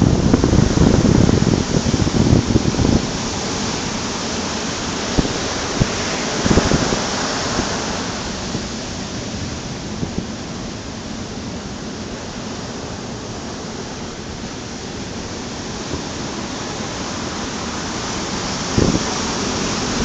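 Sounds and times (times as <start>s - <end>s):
low buffeting rumble: 0.0s - 20.0s
waves breaking on a beach: 0.0s - 20.0s.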